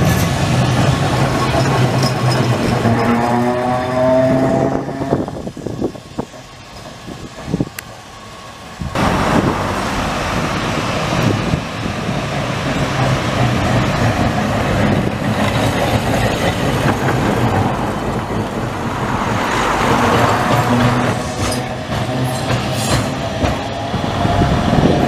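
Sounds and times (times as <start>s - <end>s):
tram wheels rumbling on rails: 0.0s - 25.0s.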